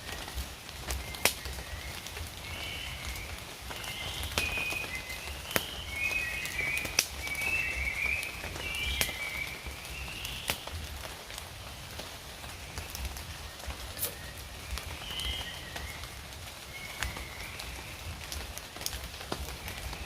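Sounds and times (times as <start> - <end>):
rain: 0.0 - 20.0.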